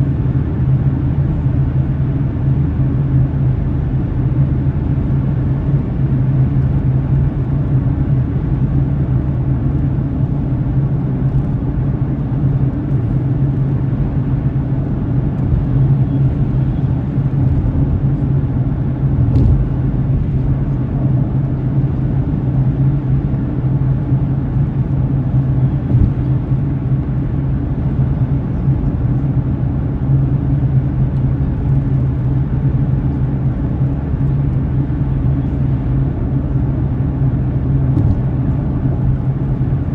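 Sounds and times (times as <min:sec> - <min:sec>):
car engine and tyre drone: 0:00.2 - 0:39.9.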